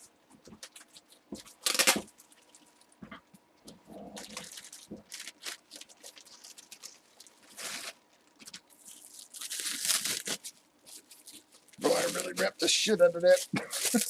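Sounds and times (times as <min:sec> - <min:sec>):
wrapping tearing and crinkling: 0:00.5 - 0:14.0.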